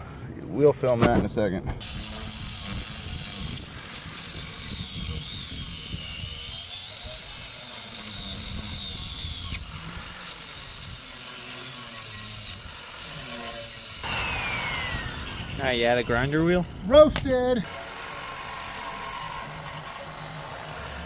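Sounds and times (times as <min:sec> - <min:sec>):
angle grinder cutting steel: 0:01.8 - 0:21.0.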